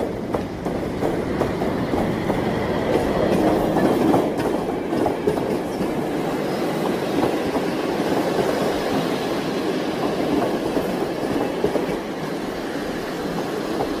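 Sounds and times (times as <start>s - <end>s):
train rattling on track: 0.0s - 14.0s.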